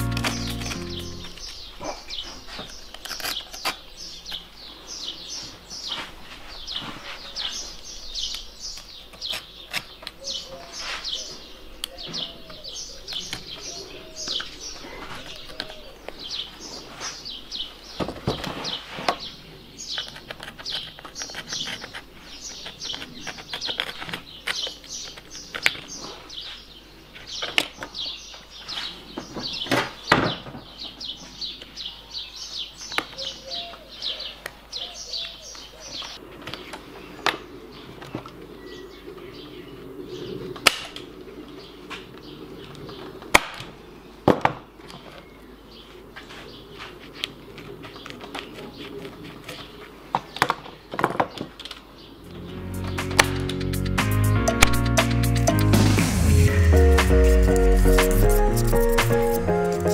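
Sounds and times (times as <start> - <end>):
small birds chirping: 0.0 - 55.5.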